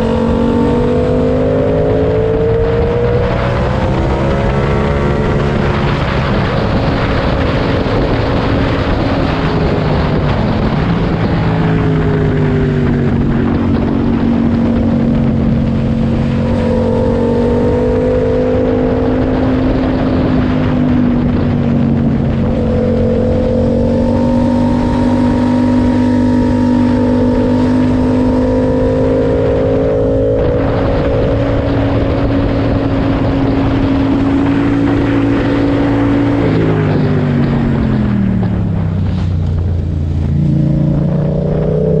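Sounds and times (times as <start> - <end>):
motorcycle engine cruising: 0.0 - 42.0
wind rush: 0.0 - 42.0.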